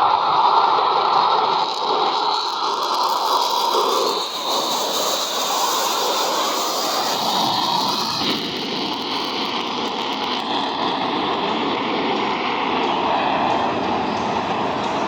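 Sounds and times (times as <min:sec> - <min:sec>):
jet engines in flight: 0:00.0 - 0:15.0.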